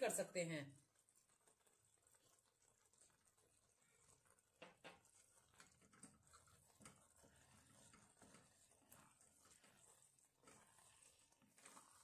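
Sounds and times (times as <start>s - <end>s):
stirring wet noodles rustle: 0.0s - 12.0s.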